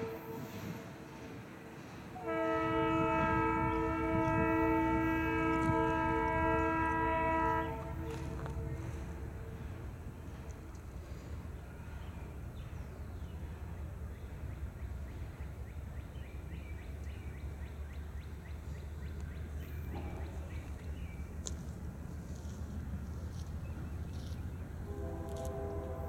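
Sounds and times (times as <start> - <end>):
distant diesel locomotives rumbling: 0.0 - 26.0.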